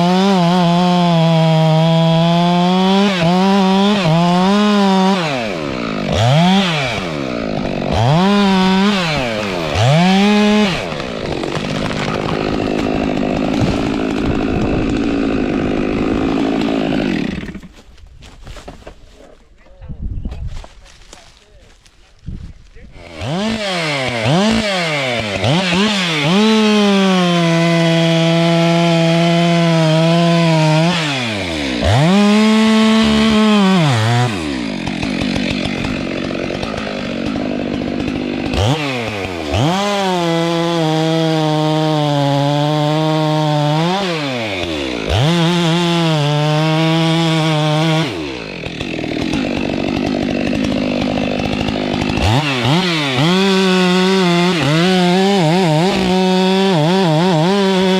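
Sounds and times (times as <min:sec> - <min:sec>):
chainsaw revving: 0:00.0 - 0:17.8, 0:22.9 - 0:57.9.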